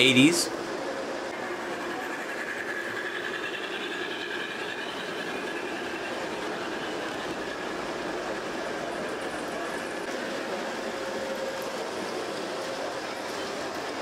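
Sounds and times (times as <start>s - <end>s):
model train motor whirring: 1.3s - 14.0s.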